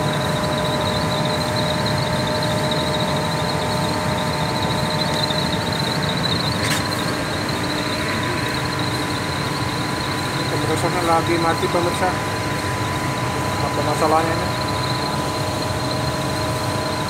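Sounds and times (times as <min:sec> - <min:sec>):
air conditioner fan rushing: 0:00.0 - 0:17.0
whining tones: 0:00.0 - 0:17.0.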